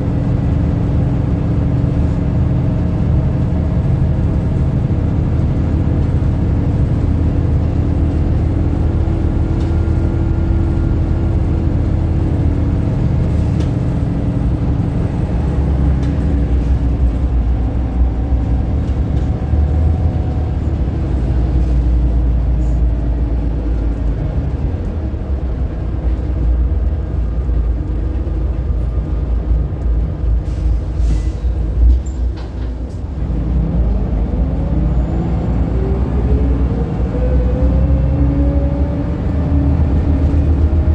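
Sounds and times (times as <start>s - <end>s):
bus diesel engine rumbling: 0.0s - 40.9s.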